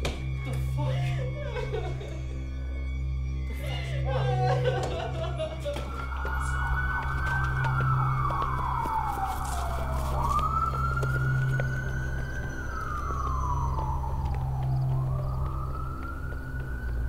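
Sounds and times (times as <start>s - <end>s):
siren wailing: 0.0s - 17.0s
steady low hum: 0.0s - 17.0s.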